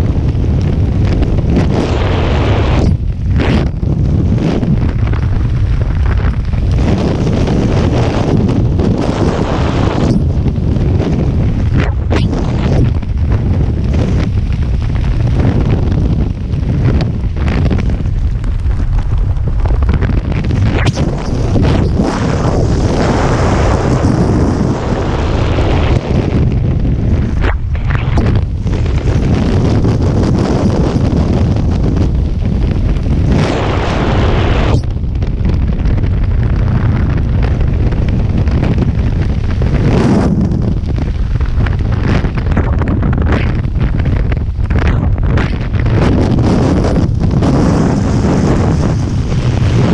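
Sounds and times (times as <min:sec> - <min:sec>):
strong wind buffeting microphone: 0:00.0 - 0:49.9.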